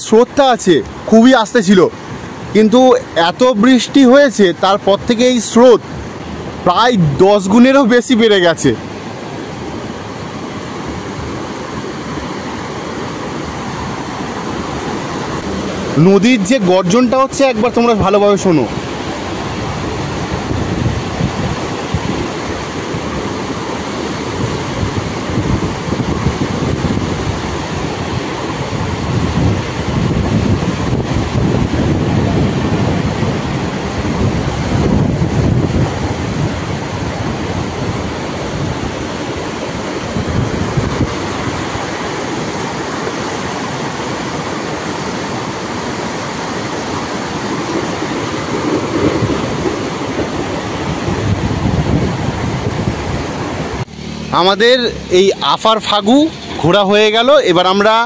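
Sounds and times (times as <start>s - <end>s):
river roaring: 0.0s - 58.0s.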